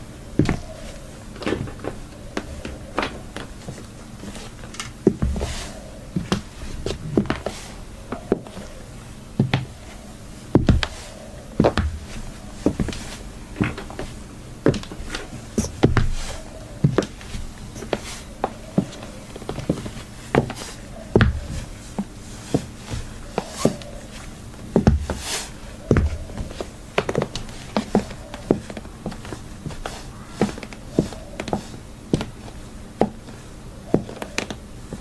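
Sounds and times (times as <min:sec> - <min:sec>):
high heels clicking on hard floor: 0:00.4 - 0:07.5, 0:10.5 - 0:24.0, 0:24.8 - 0:25.2, 0:25.8 - 0:33.3.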